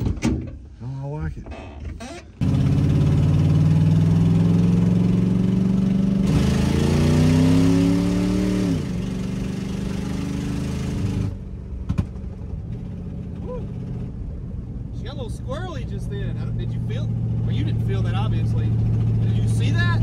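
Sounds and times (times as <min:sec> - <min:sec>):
car engine accelerating: 0:02.4 - 0:20.0.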